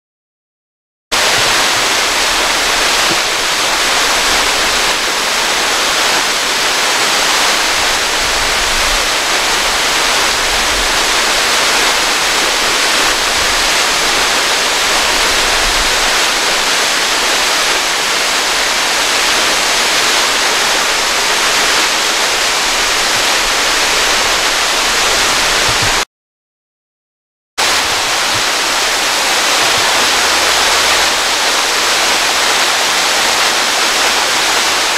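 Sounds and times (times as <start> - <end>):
waterfall hissing: 1.2 - 26.0, 27.6 - 34.9.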